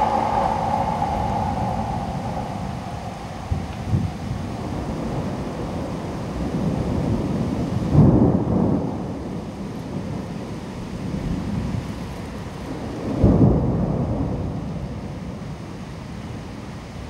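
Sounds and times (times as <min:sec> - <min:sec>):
heavy rain: 0:00.0 - 0:17.0
thunder rumble: 0:00.0 - 0:17.0.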